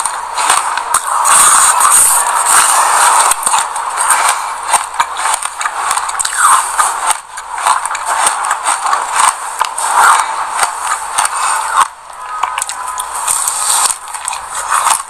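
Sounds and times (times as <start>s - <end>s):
seeds being chewed: 0.0s - 15.0s.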